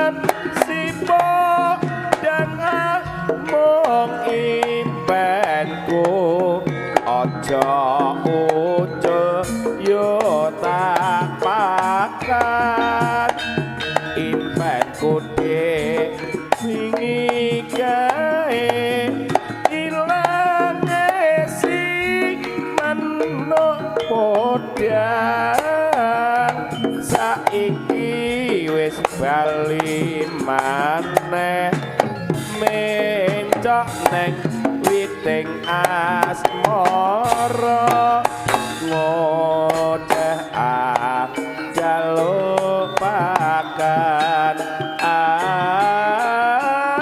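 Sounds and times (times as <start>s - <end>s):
hand drum strokes: 0.0s - 47.0s
melody of held notes and slides: 0.0s - 47.0s.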